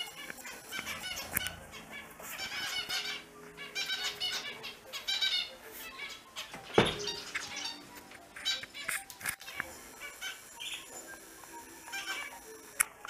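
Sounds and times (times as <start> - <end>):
finches chirping: 0.0 - 12.8.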